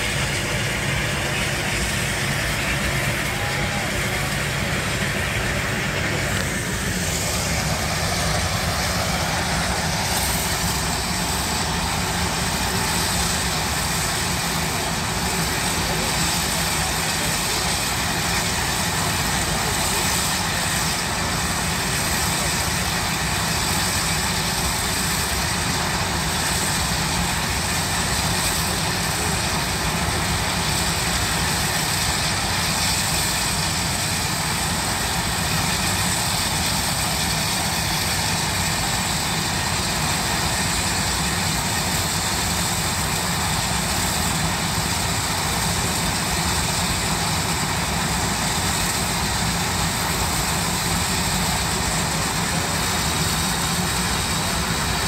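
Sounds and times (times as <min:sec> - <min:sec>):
steam shovel rumble and hiss: 0:00.0 - 0:55.0.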